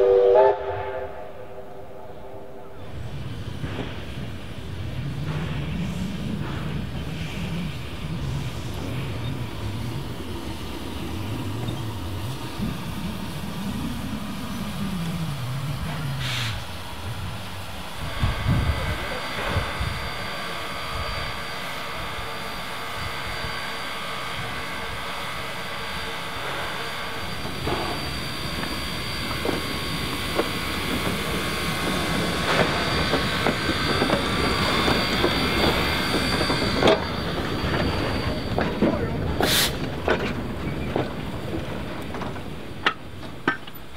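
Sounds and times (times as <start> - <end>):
steam locomotive low hum: 0.0 - 43.9
wheels clanking on rails: 3.1 - 21.4, 25.8 - 43.9.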